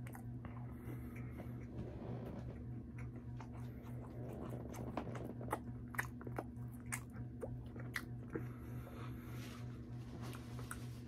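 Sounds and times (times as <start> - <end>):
chewing food: 0.0 - 9.4, 10.1 - 11.0
steady low hum: 0.0 - 11.0.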